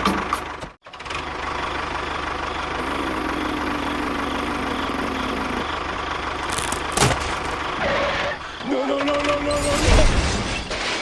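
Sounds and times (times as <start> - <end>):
vehicle engine idling: 0.0 - 9.4.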